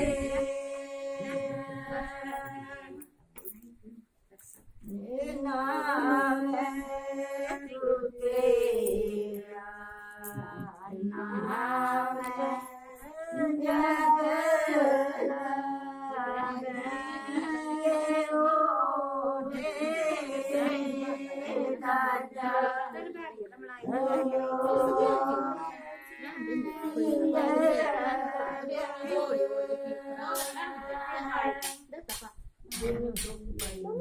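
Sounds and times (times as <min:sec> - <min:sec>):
women singing unaccompanied: 0:00.0 - 0:03.1, 0:04.8 - 0:34.0.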